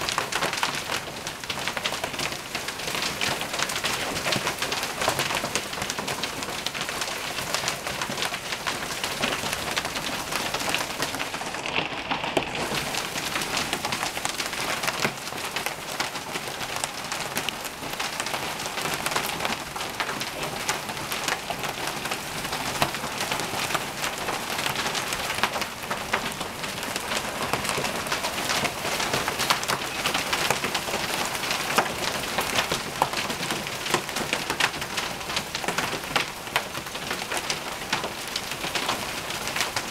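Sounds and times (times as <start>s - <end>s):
hailstones pelting hard surfaces: 0.0s - 39.9s.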